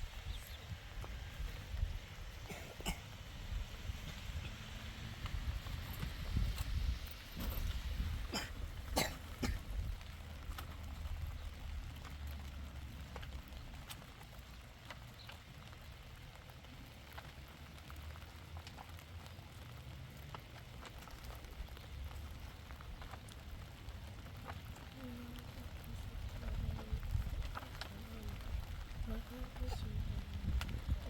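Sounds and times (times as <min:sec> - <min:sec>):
raindrops ticking: 0:00.0 - 0:31.0
steady rain falling: 0:00.0 - 0:31.0.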